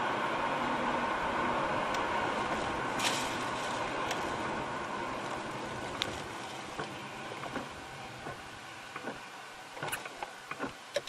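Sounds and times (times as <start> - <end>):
tyre noise on wet road: 0.0 - 11.0.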